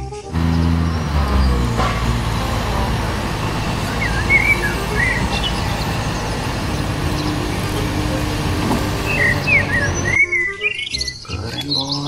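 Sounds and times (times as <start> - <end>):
forklift engine running: 0.0 - 10.2.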